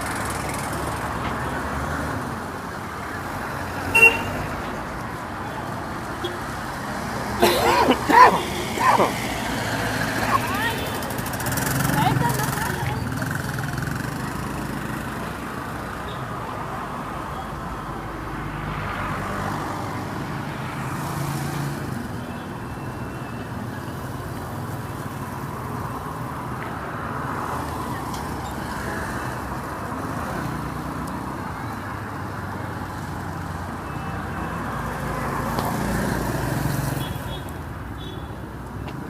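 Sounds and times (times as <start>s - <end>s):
cars passing: 0.0s - 22.6s, 23.9s - 39.0s.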